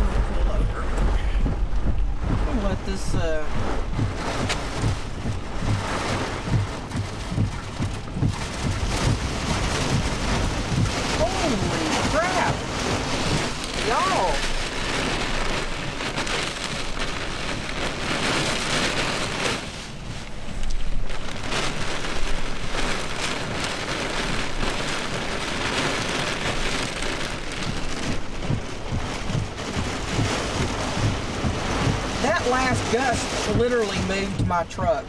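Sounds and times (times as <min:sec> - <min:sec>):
heavy rain beating on truck: 0:00.0 - 0:35.0
wind gusts buffeting truck: 0:00.0 - 0:35.0.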